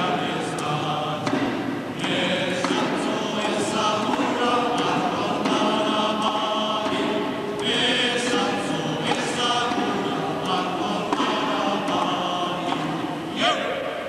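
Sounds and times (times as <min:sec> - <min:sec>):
sticks clacking: 0:00.0 - 0:13.4
group chanting long notes: 0:00.0 - 0:14.0.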